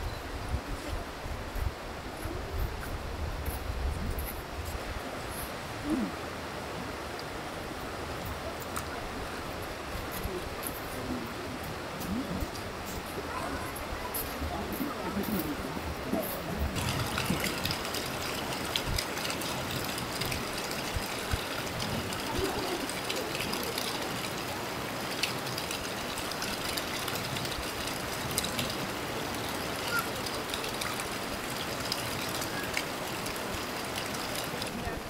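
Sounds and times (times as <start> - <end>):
flowing water rushing: 0.0 - 35.0.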